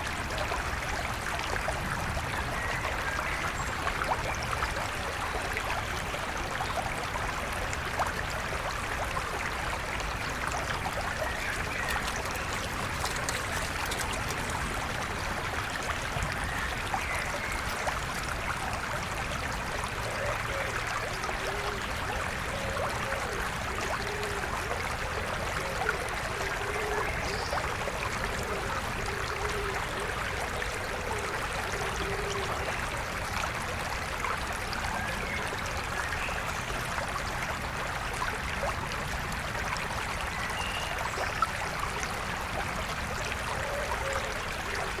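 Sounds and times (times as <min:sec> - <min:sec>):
river water flowing: 0:00.0 - 0:45.0.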